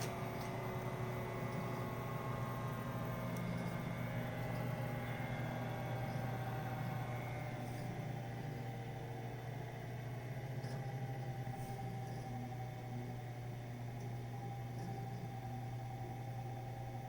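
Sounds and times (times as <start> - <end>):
boiler running with low hum: 0.0 - 17.0.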